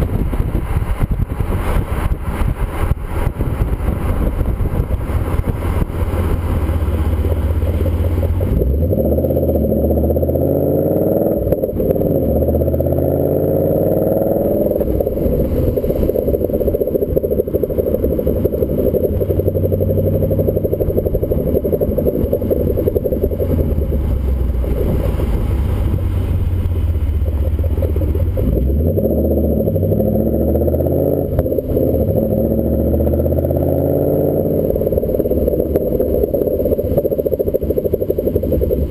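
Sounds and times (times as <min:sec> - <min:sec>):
car exhaust rumble: 0:00.0 - 0:38.9.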